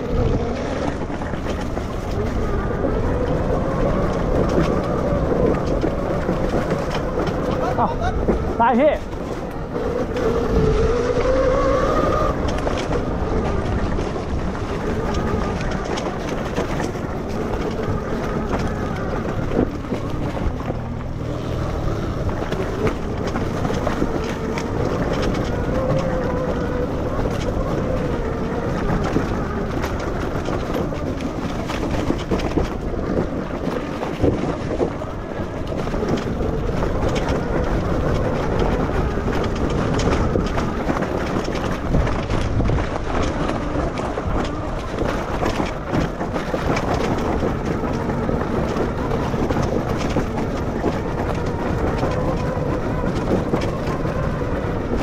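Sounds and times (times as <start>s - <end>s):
motorcycle knocks and rattles: 0.0s - 55.0s
wind and ground noise: 0.0s - 55.0s.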